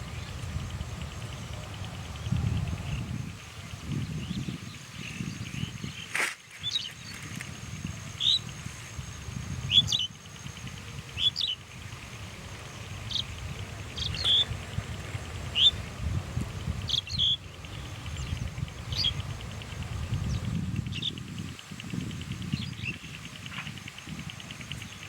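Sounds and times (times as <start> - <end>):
bird chirping: 0.0 - 8.6, 9.4 - 16.0, 16.6 - 25.0.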